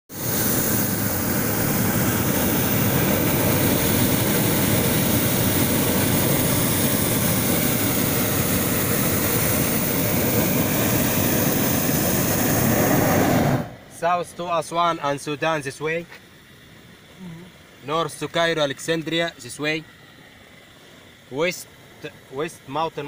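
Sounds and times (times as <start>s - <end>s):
propane burner roaring: 0.1s - 23.0s.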